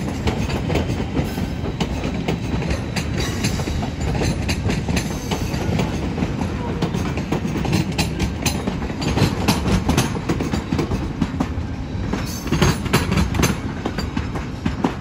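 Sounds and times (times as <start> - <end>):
train rumbling past: 0.0 - 15.0
wheels clacking over rail joints: 0.0 - 15.0.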